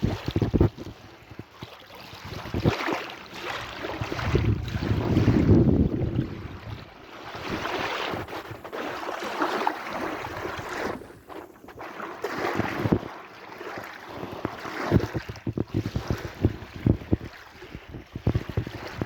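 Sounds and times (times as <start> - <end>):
sea waves washing in: 2.4 - 19.0.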